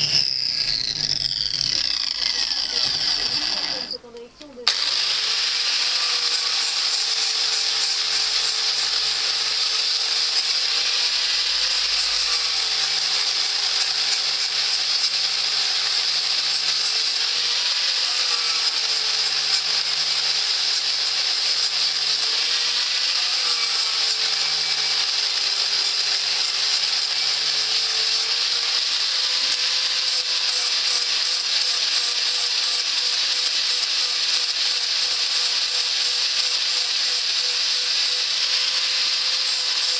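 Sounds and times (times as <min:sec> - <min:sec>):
abrasive wheel grinding steel: 0:00.0 - 0:04.0, 0:04.6 - 0:39.9.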